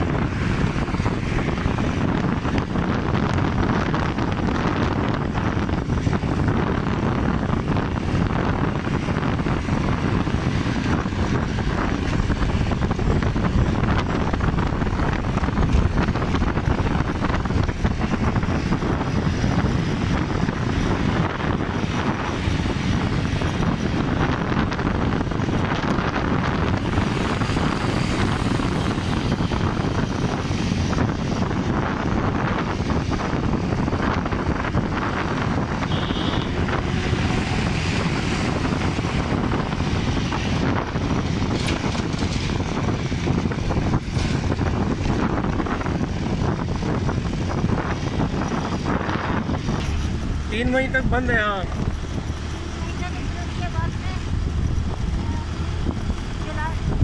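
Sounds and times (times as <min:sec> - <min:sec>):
motorcycle engine at speed: 0:00.0 - 0:57.0
wind rushing: 0:00.0 - 0:57.0.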